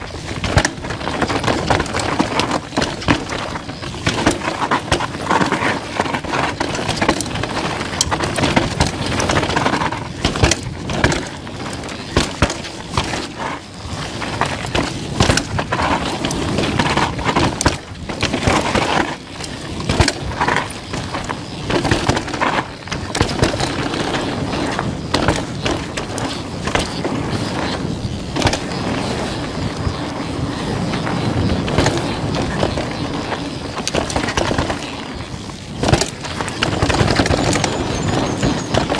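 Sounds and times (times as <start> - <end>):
bike knocks and rattles: 0.0 - 38.9
bike tyre and trail noise: 0.0 - 38.9
wind buffeting microphone: 0.0 - 38.9.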